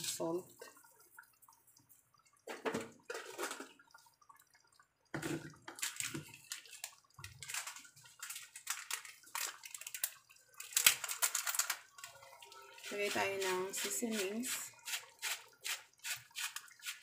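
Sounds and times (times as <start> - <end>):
broth bubbling and popping: 0.0 - 17.0.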